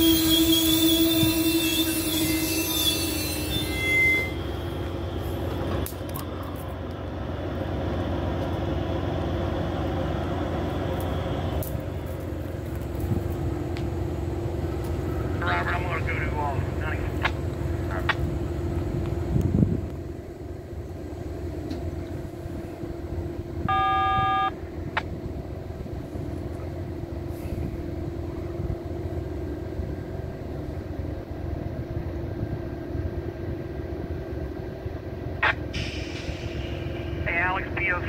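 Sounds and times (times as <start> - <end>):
diesel locomotives idling: 0.0 - 38.0.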